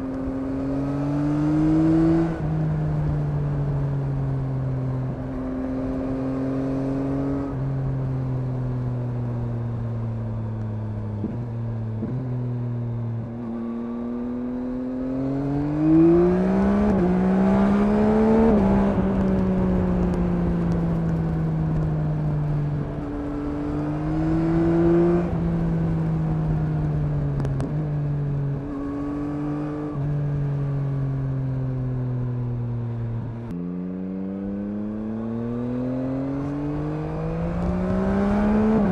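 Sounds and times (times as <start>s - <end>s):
motorcycle engine revving: 0.0s - 8.6s, 11.1s - 38.9s.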